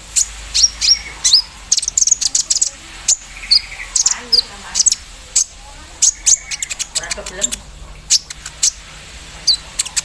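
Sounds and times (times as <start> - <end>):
bird singing sharp chips and trills: 0.0 - 8.8, 9.4 - 10.0.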